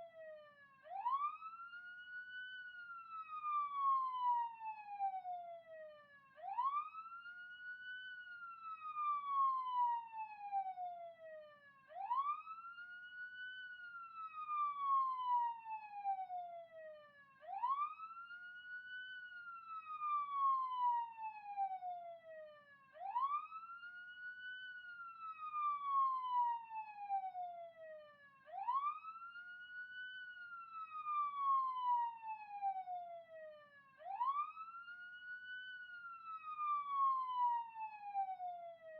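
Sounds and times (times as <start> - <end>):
police siren wailing: 0.8 - 5.4, 6.4 - 10.9, 11.9 - 16.8, 17.4 - 38.9.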